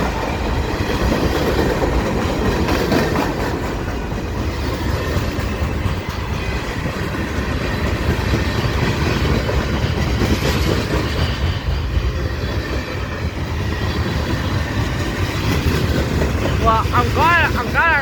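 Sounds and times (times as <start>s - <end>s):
wheels clicking over rail joints: 0.0s - 16.6s
freight train wheels rumbling: 0.0s - 18.0s.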